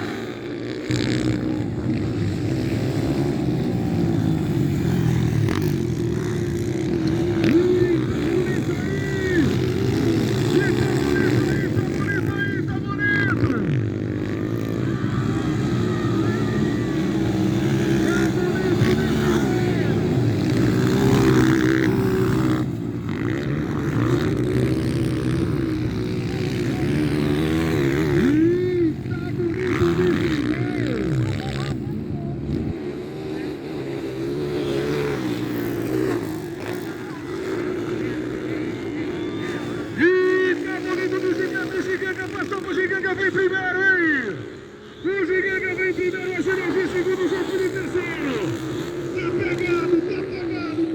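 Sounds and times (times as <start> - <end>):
motocross motorcycles running: 0.0 - 50.9.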